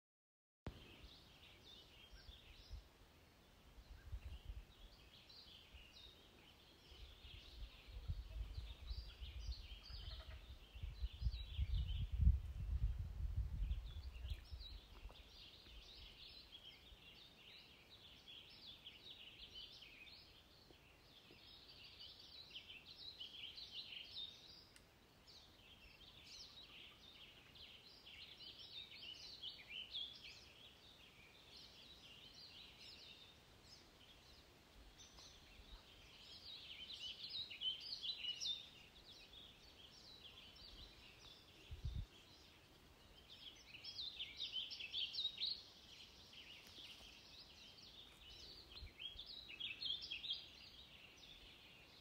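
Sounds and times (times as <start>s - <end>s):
small birds chirping: 0.7s - 52.0s.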